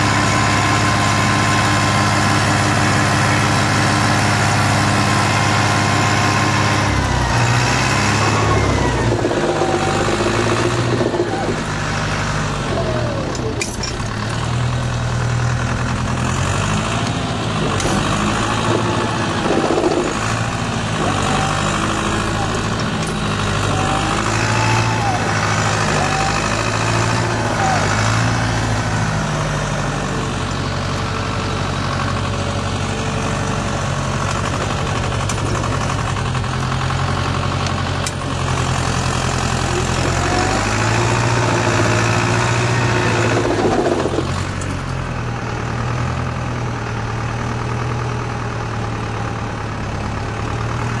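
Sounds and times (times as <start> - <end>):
tractor engine under load: 0.0 - 51.0.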